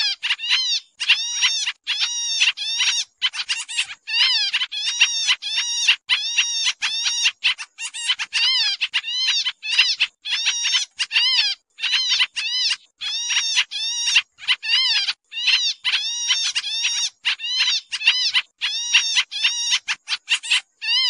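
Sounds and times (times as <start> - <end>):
bird calling rapid notes: 0.0 - 21.0.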